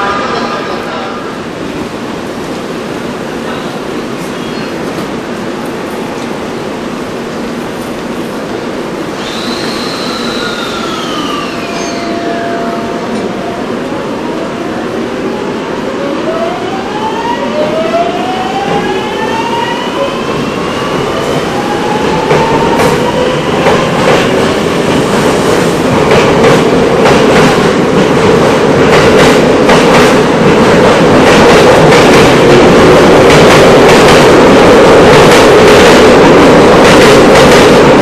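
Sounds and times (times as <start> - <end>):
train wheel and rail noise: 0.0 - 38.0.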